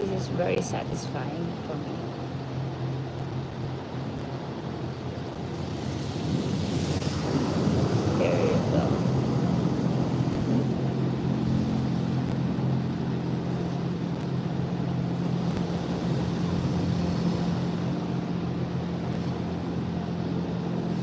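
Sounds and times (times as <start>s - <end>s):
car wash running: 2.7s - 21.0s.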